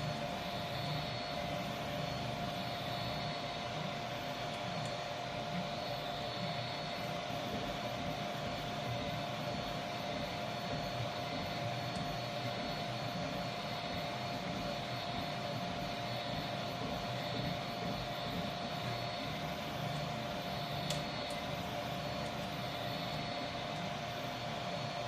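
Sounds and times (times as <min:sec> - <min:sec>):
three-d printer humming: 0:00.0 - 0:25.0.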